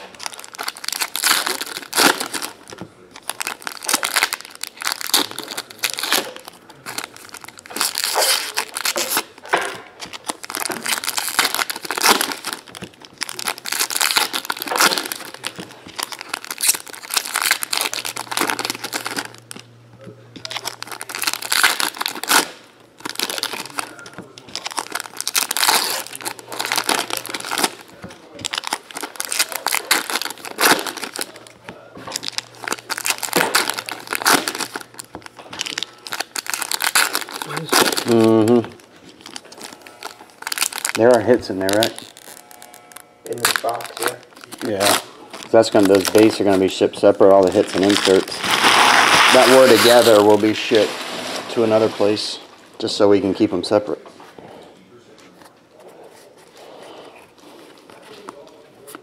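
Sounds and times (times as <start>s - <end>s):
foil wrappers crinkling and tearing: 0.0s - 54.0s, 55.2s - 59.0s.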